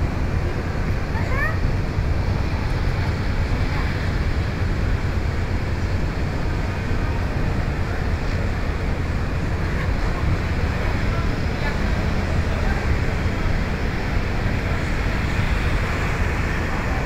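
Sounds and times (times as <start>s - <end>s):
low rumble of traffic: 0.0s - 17.0s
wind buffeting microphone: 0.0s - 17.0s.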